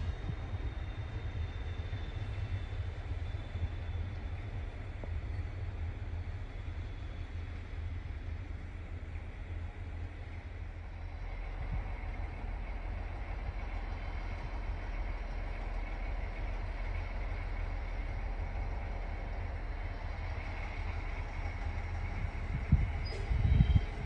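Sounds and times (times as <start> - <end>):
distant locomotive rumbling: 0.0 - 24.0.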